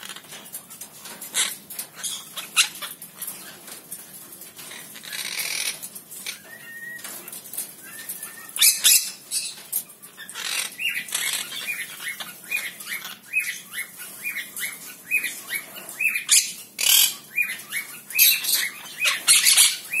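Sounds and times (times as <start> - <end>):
parakeets chirping: 0.0 - 20.0
parakeets squawking harshly: 1.1 - 3.5, 4.6 - 20.0.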